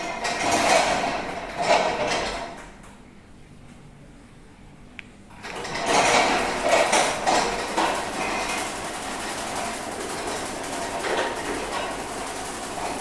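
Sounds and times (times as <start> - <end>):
garage door rattling slide: 0.0 - 2.8, 5.3 - 13.0.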